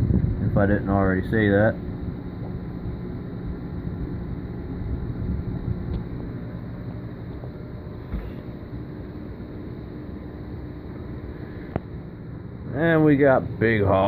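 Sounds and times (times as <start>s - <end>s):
aquarium pumps humming: 0.0s - 14.0s.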